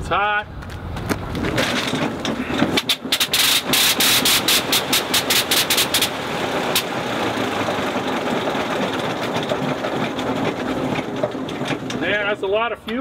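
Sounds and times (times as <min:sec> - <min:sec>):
propeller winding down: 0:00.9 - 0:12.5.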